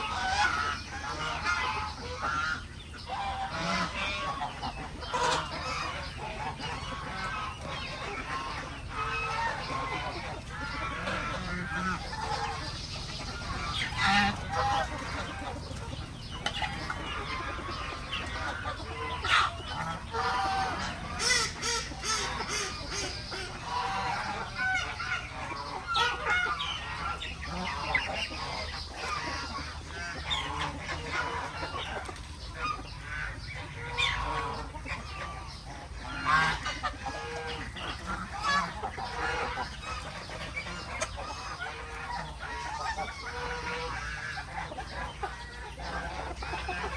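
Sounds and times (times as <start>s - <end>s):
chickens clucking: 0.0s - 46.9s
geese honking: 0.0s - 46.9s.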